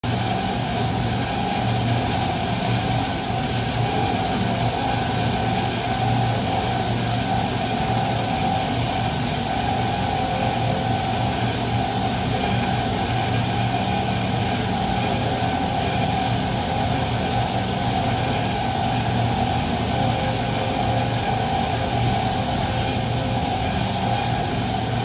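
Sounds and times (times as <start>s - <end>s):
wire saw humming: 0.4s - 25.0s.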